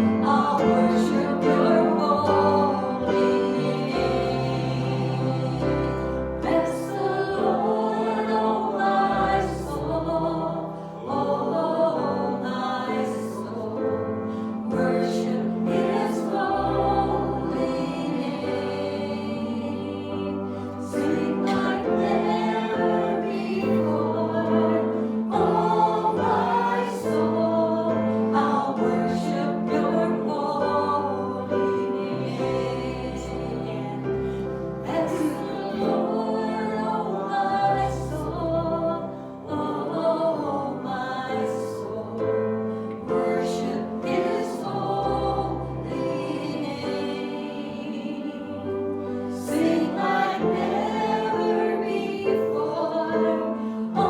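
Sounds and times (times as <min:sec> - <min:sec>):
choir singing a worship song: 0:00.0 - 0:54.0.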